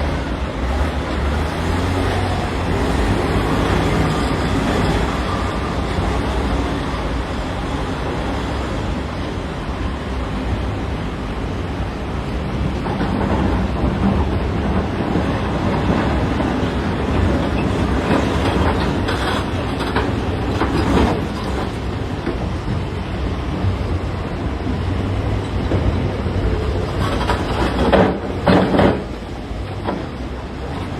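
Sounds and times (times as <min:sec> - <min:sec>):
heavy diesel machinery running: 0:00.0 - 0:30.9.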